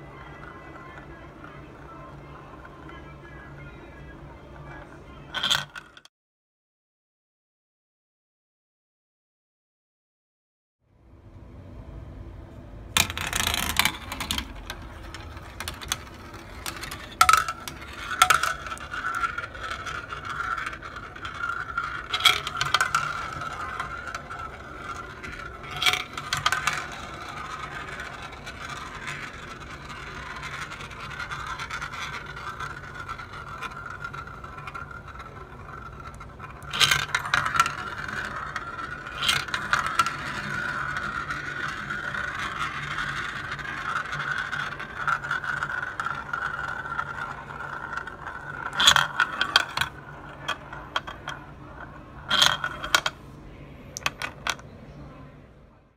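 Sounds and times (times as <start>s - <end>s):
marbles clicking on track: 0.0s - 6.1s, 13.0s - 53.2s, 54.0s - 54.7s
marbles whirring in plastic run: 0.0s - 6.1s, 12.9s - 54.7s.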